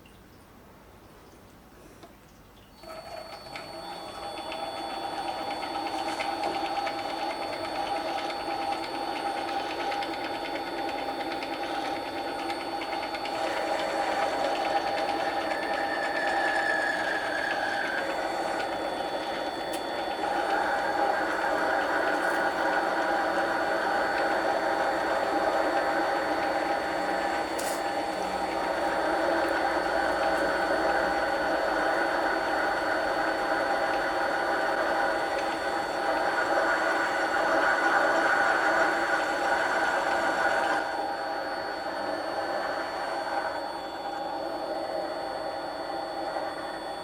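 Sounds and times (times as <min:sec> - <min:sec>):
lathe motor whine: 0:02.8 - 0:47.0.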